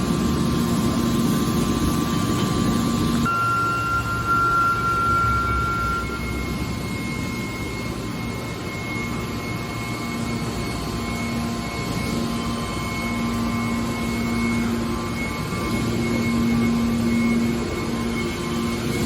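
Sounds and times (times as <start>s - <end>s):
baler machine hum with high whine: 0.0s - 19.0s
low machine drone: 0.0s - 19.0s.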